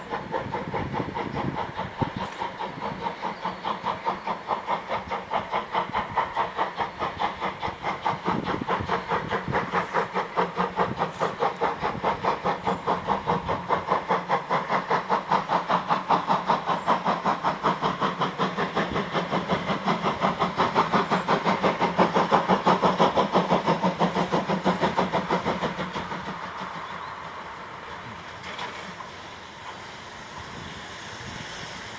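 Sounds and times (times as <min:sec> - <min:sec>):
steam locomotive chuffing: 0:00.0 - 0:31.9.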